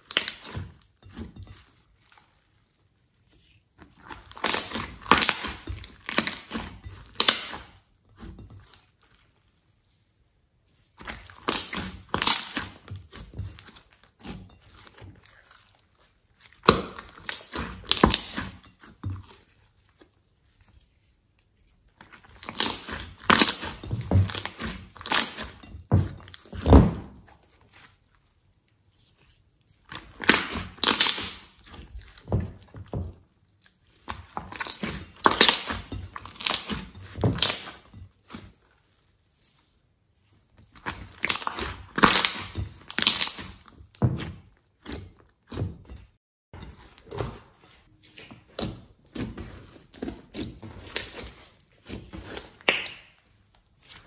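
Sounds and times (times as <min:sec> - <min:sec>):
slime squelching: 0:00.0 - 0:54.0.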